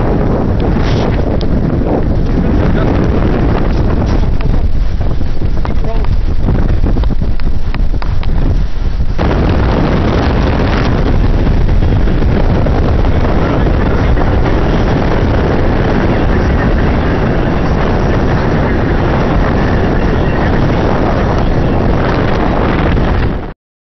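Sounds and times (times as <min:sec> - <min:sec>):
wind buffeting microphone: 0:00.0 - 0:23.5.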